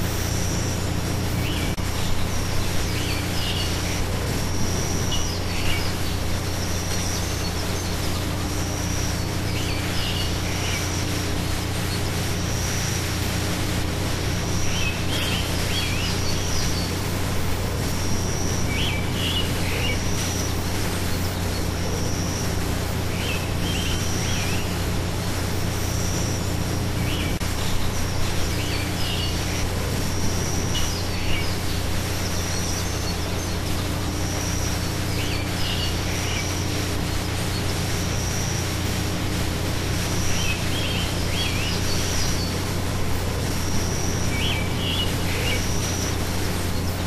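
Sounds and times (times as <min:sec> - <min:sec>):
birds calling: 0:00.0 - 0:47.0
low steady hum: 0:00.0 - 0:47.0
steady outdoor hiss: 0:00.0 - 0:47.0.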